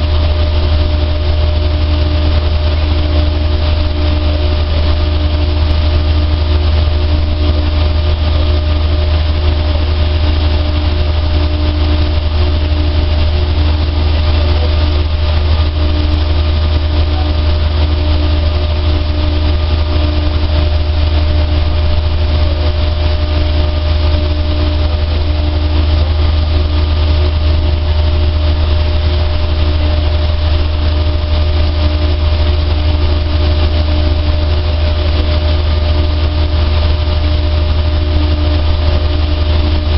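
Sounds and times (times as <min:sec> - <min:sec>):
dryer machine humming: 0:00.0 - 0:39.9.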